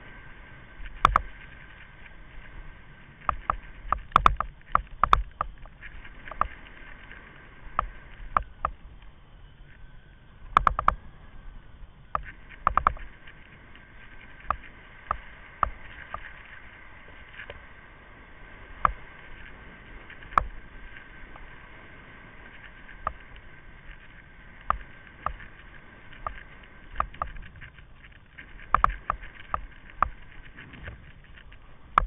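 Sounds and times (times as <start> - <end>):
buggy rolling over sand: 0.0 - 32.0.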